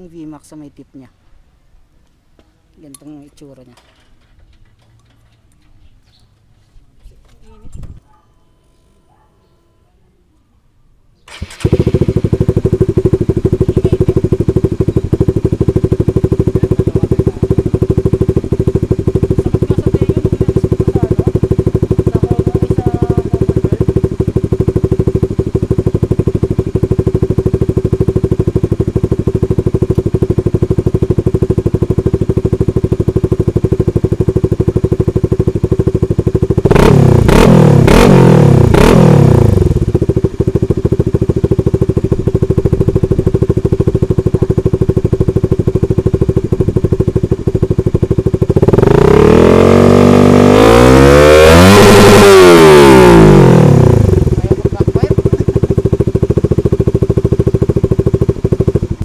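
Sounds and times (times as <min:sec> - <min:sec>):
motorcycle engine starting and idling: 0:02.8 - 0:08.2, 0:11.2 - 0:59.0
engine revving: 0:11.3 - 0:59.0.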